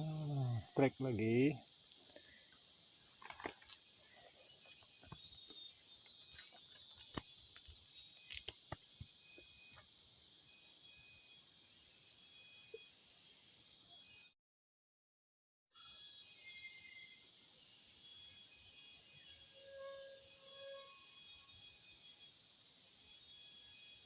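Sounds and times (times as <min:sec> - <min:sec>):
insect chorus drone: 0:00.0 - 0:14.4, 0:15.8 - 0:24.0.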